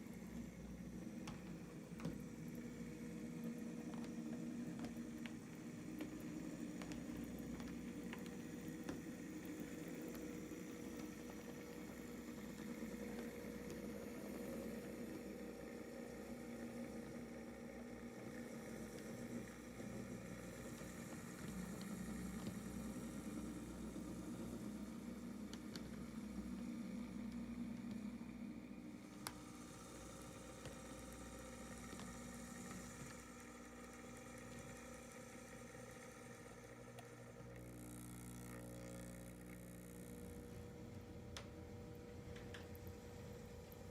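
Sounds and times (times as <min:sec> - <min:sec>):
model locomotive humming: 0:00.0 - 0:43.9.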